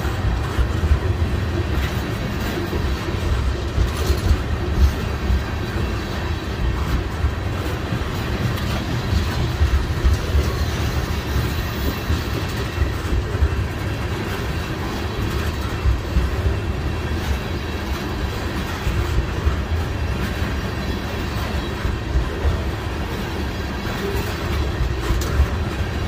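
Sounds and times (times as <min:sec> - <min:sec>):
wheels clanking over rail joints: 0:00.0 - 0:26.0
wheels rumbling on rail: 0:00.0 - 0:26.0.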